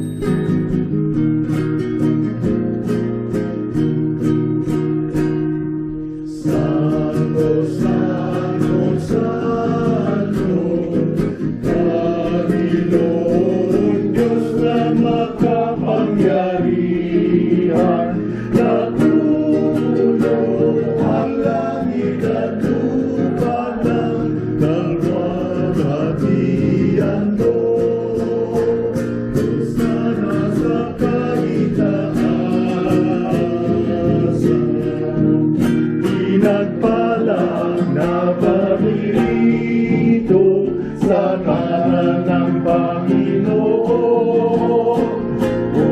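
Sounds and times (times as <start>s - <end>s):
strummed acoustic guitar: 0.0s - 45.9s
group singing a hymn: 6.2s - 45.9s.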